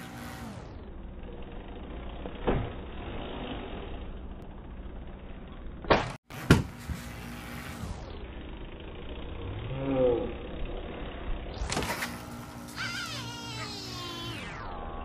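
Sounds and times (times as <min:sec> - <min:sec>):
electric motor hum: 0:00.0 - 0:05.1, 0:07.1 - 0:15.0.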